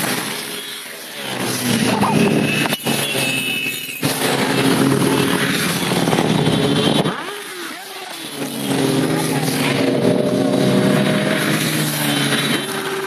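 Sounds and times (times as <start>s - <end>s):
motorcycles riding past: 0.0s - 13.0s.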